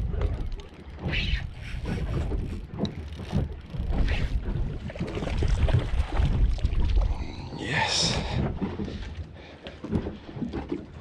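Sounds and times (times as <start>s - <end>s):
wind buffeting microphone: 0.0s - 9.2s
water slapping boat hull: 0.0s - 11.0s.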